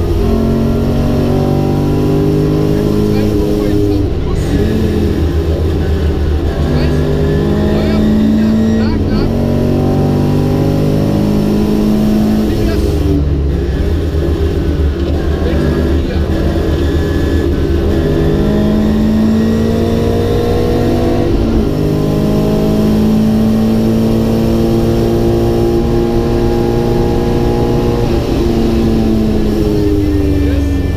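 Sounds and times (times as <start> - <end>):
car engine from inside cabin: 0.0 - 30.9
low road noise rumble: 0.0 - 30.9.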